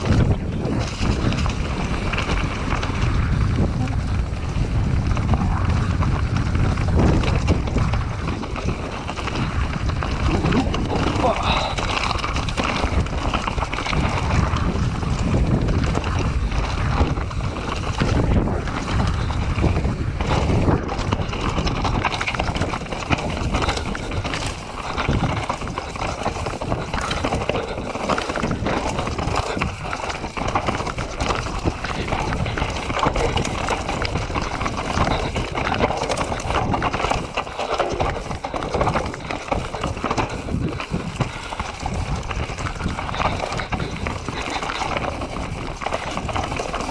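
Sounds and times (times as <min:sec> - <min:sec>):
bike knocks and rattles: 0:00.0 - 0:46.9
bike tyres rolling over stones: 0:00.0 - 0:46.9
wind noise on microphone: 0:00.0 - 0:46.9.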